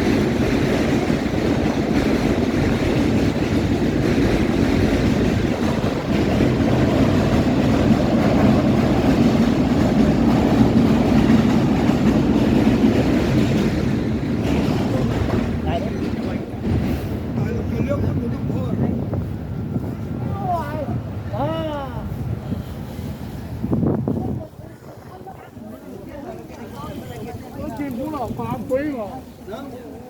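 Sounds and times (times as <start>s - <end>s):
subway train rattle and rumble: 0.0s - 30.0s.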